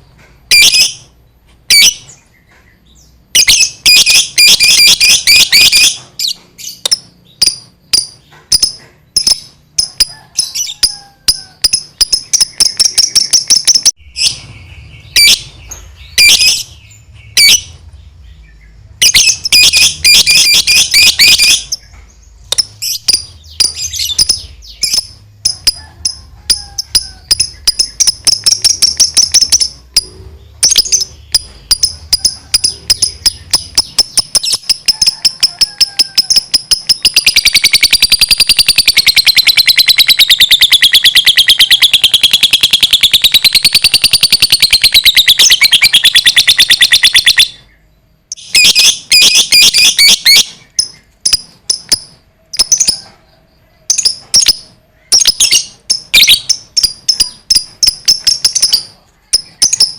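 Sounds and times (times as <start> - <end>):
lovebird chirping: 0.0 - 59.9
lovebird chattering trill: 3.3 - 17.8, 19.0 - 59.9.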